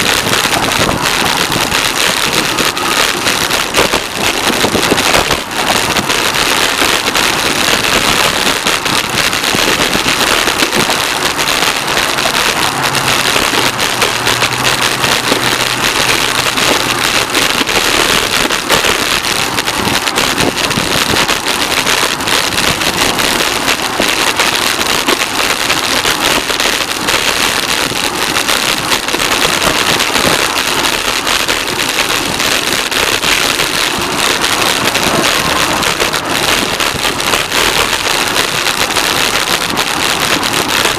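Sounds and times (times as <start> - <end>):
bicycle tyre noise: 0.0 - 40.9
dense crackle: 0.0 - 40.9
rushing wind: 0.0 - 40.9.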